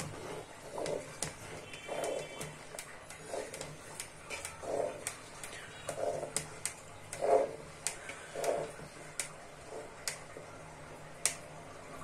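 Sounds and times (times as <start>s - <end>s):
spatula stirring thick dal: 0.0s - 11.5s.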